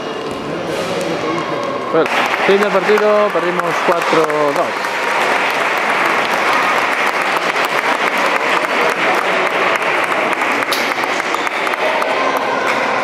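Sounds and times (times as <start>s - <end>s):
crowd applauding: 1.3s - 13.0s.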